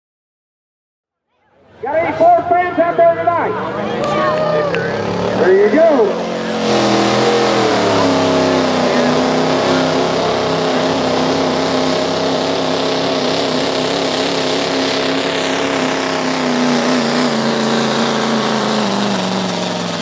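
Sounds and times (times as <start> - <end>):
diesel pickup engine running hard: 1.8 - 20.0.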